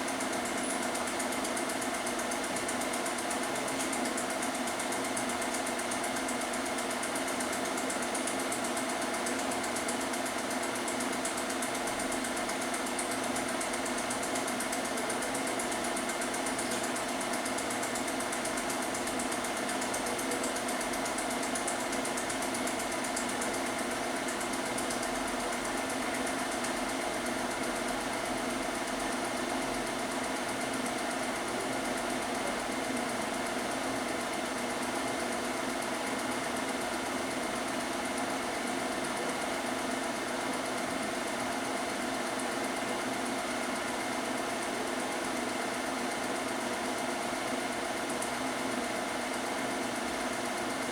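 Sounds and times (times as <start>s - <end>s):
film projector whirring: 0.0s - 50.9s.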